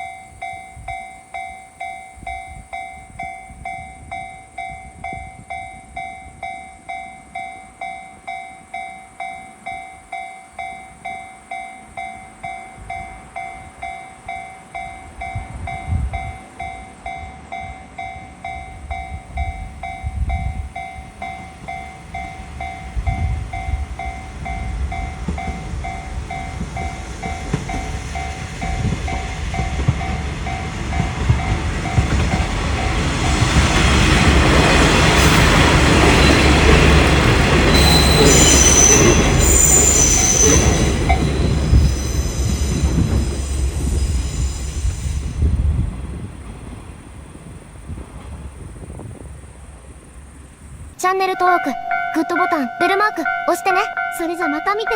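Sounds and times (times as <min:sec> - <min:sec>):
level-crossing bell dinging: 0:00.0 - 0:33.0, 0:37.7 - 0:45.1, 0:51.1 - 0:54.9
diesel railcar rumbling and clattering: 0:00.0 - 0:51.0.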